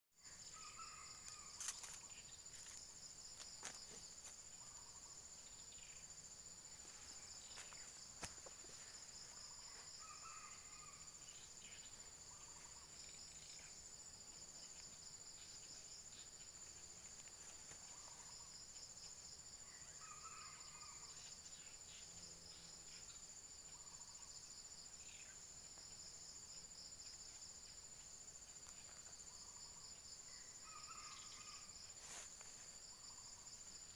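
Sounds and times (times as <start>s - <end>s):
insects droning: 0.2s - 33.9s.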